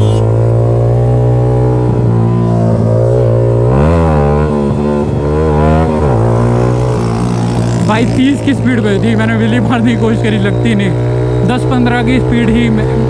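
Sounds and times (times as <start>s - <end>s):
motorcycle engine with loud exhaust: 0.0s - 13.0s.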